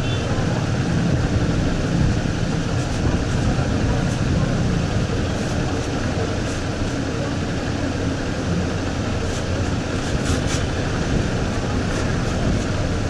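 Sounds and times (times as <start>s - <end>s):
steady rumbling: 0.0s - 13.0s.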